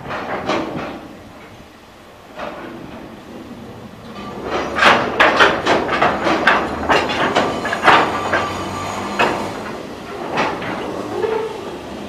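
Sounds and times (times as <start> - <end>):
freight train wagons clanking: 0.0 - 12.0
low train rumble: 0.0 - 12.0.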